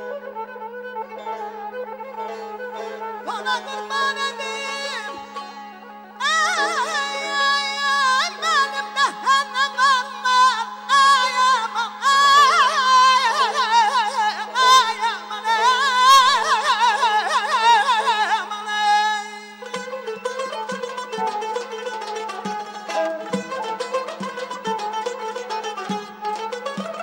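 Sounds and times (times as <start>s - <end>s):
man singing with ornamental trills: 0.0s - 27.0s.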